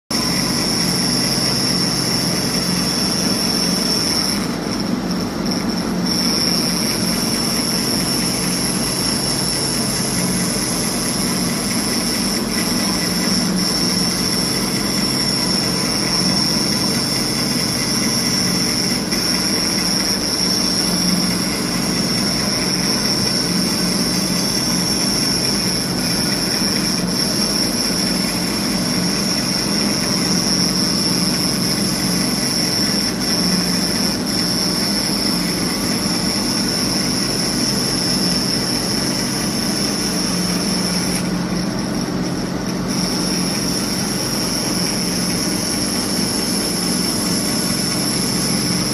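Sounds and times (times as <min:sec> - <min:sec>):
foam cutting machine whining: 0:00.1 - 0:48.9.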